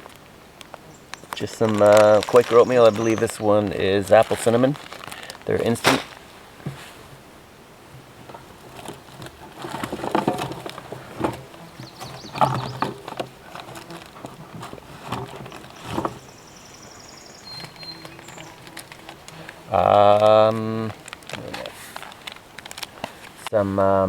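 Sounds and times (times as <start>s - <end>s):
food packages rustling: 0.0s - 23.5s
knocks of items moved: 0.0s - 23.6s.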